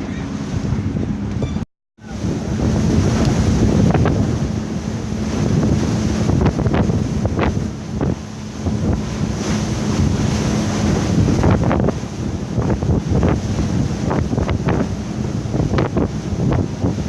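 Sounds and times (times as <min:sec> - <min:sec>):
boat engine drone: 0:00.0 - 0:17.0
hull slapping water: 0:00.0 - 0:17.0
wind buffeting microphone: 0:00.0 - 0:17.0.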